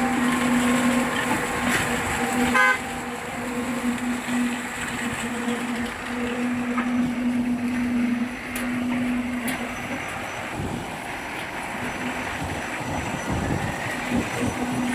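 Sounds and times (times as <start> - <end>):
constant rushing noise: 0.0 - 14.9
pump humming: 0.0 - 14.9.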